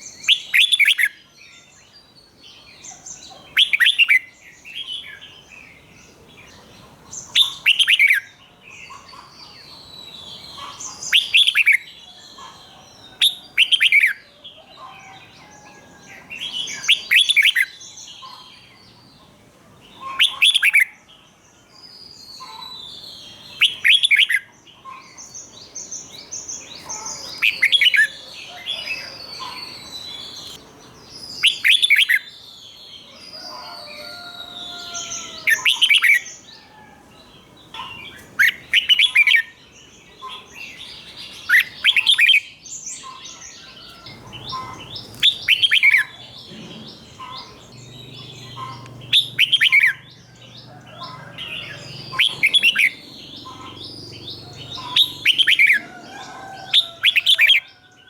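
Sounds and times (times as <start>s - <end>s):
bird singing: 0.0s - 58.0s.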